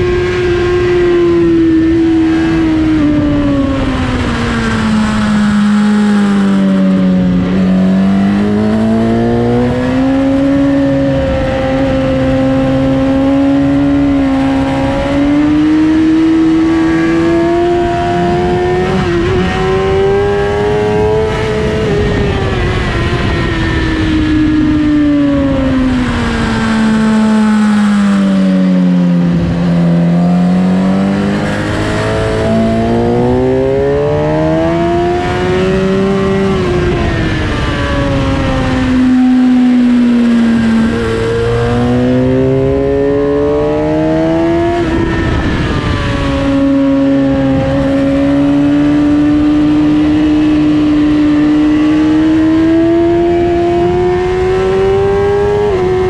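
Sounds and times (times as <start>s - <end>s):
motorcycle engine at racing speed: 0.0s - 56.0s
wind rush: 0.0s - 56.0s.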